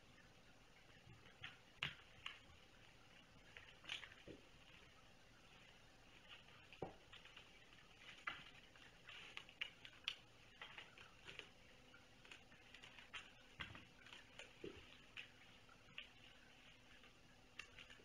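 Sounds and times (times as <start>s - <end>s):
light clicks and taps: 1.0s - 18.0s.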